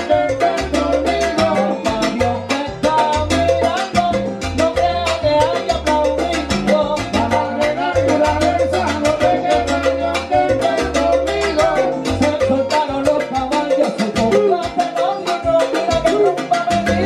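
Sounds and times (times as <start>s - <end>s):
congas: 0.0s - 17.0s
salsa band playing: 0.0s - 17.0s.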